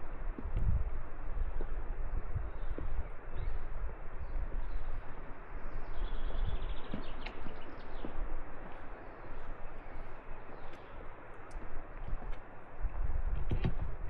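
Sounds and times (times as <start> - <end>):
wind rumbling on microphone: 0.0 - 14.0
footsteps on rocky path: 0.2 - 14.0.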